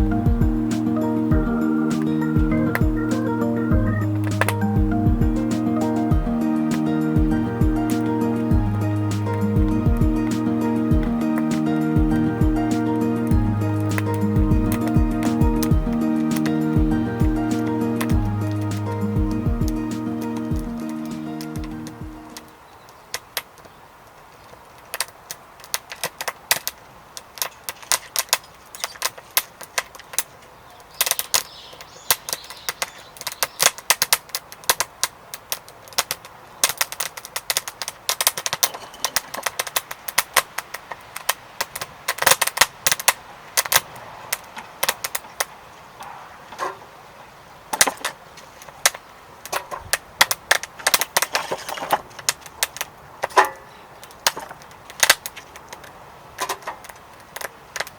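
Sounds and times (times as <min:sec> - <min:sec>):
wood fire crackling and popping: 0:00.0 - 0:46.8, 0:47.7 - 0:57.9.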